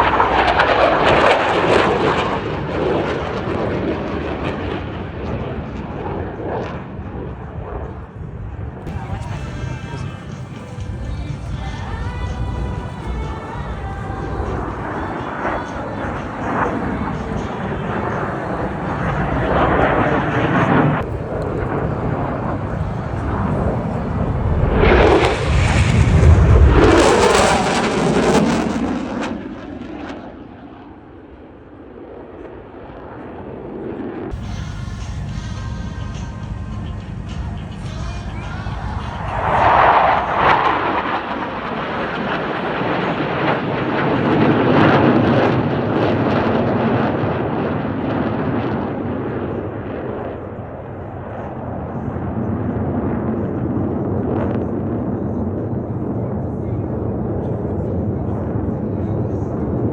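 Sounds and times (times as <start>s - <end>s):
jet roar: 0.0s - 59.9s.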